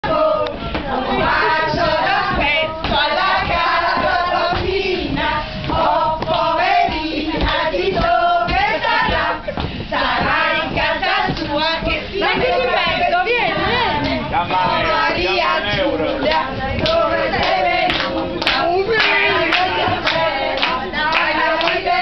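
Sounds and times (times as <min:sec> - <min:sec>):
group of people singing: 0:00.0 - 0:22.0.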